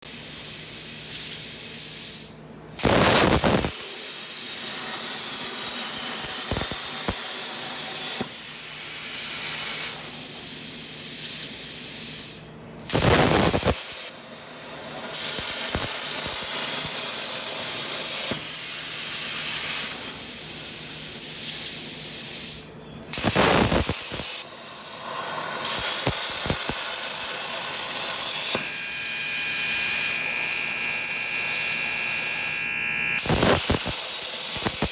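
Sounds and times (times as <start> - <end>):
plasma torch cutting metal: 0.1 - 34.9.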